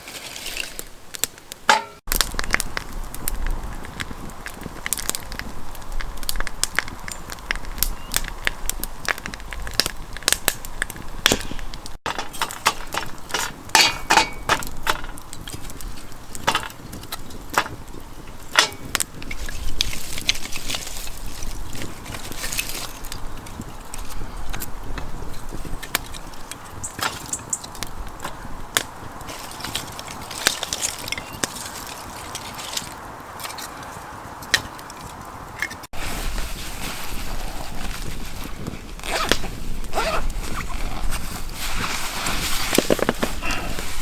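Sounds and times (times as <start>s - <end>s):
dry wood cracking: 0.0s - 44.0s.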